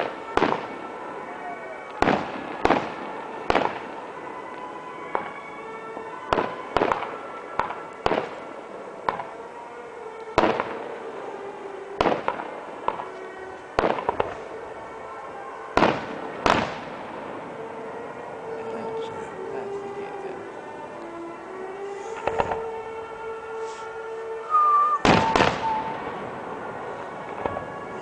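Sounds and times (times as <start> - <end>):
background music: 0.0 - 28.0
fireworks bangs: 0.0 - 28.0.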